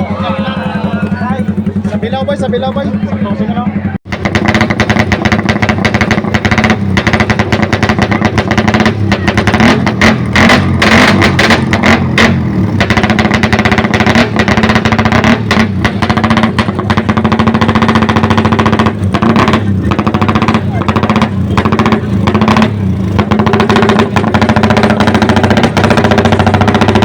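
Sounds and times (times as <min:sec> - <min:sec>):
motorcycle engines running: 0:00.0 - 0:27.0.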